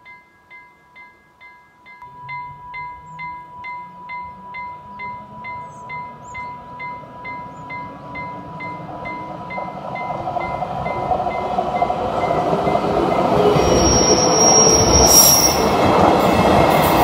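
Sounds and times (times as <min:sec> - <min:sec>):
approaching electric train: 0:02.1 - 0:17.0.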